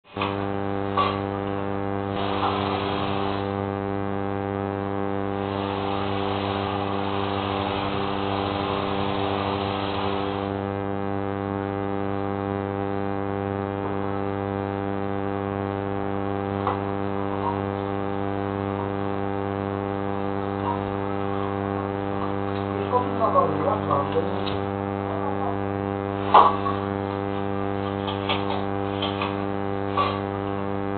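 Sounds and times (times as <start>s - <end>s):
electrical mains hum: 0.0s - 30.9s.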